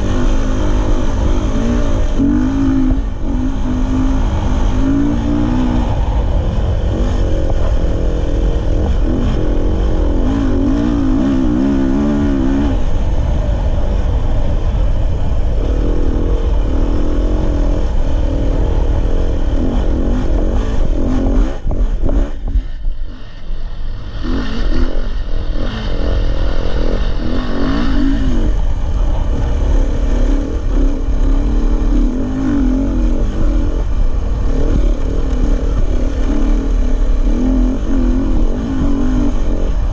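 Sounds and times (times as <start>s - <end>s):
dirt bike engine: 0.0s - 39.9s
low rumble: 0.0s - 39.9s.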